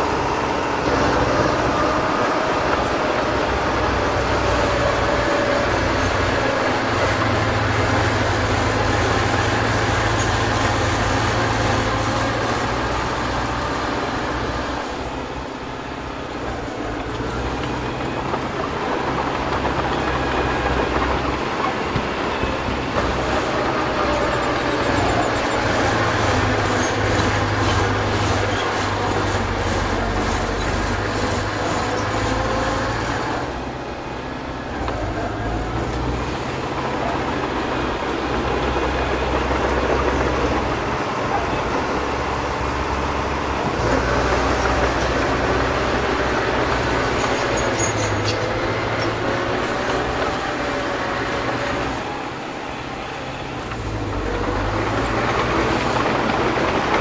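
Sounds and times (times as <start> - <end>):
bulldozer diesel engine under load: 0.0 - 57.0
steel tracks squealing and grinding: 0.0 - 57.0.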